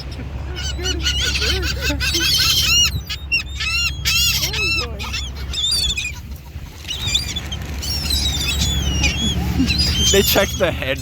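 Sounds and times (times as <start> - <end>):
birds honking: 0.0 - 11.0
high wavering bird calls: 0.0 - 11.0.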